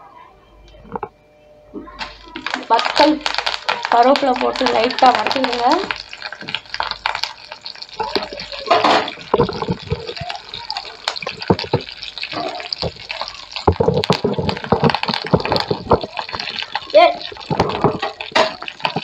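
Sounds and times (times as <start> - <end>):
chillies sizzling in oil: 1.9 - 19.0
spoon scraping and knocking on pan: 2.1 - 19.0.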